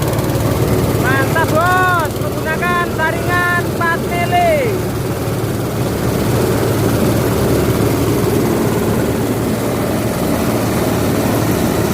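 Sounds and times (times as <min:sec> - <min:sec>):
grinding machine droning: 0:00.0 - 0:11.9.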